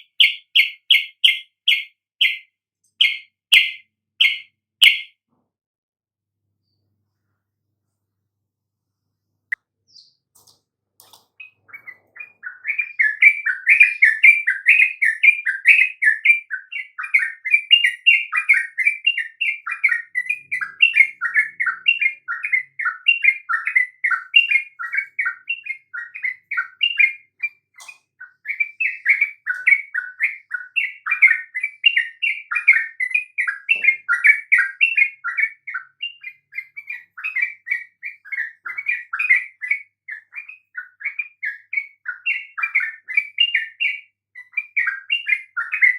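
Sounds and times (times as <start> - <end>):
bird chattering song: 0.0 - 5.2, 9.9 - 45.9.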